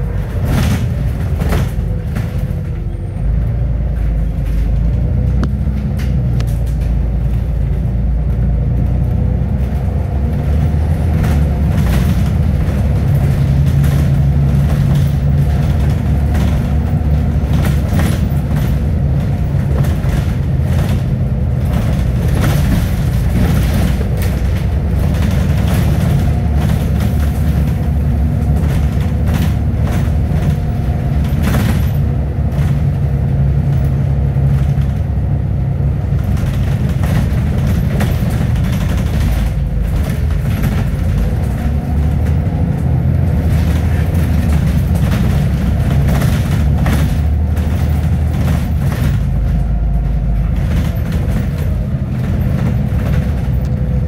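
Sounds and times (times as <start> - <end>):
bus body rattles: 0.0 - 54.0
bus engine rumble: 0.0 - 54.0.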